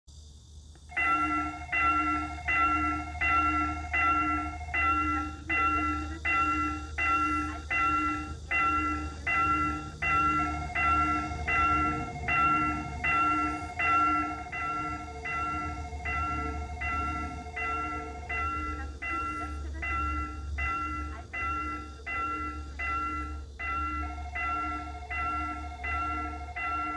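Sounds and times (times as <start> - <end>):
level crossing bell ringing: 0.9 - 26.9.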